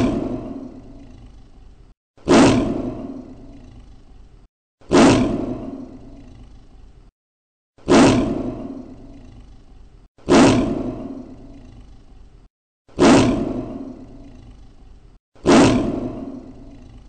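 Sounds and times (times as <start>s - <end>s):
tiger roar: 0.0s - 6.9s, 7.8s - 12.3s, 12.9s - 17.0s.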